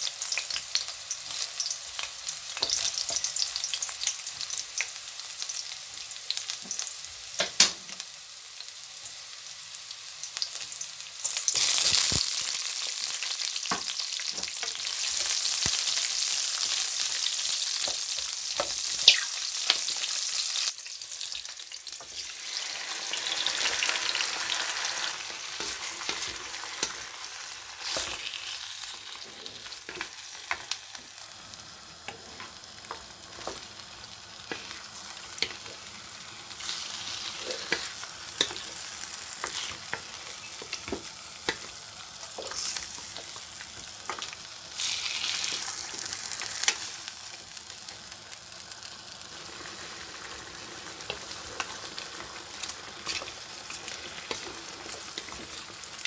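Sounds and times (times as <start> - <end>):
garlic sizzling in oil: 0.0 - 56.0.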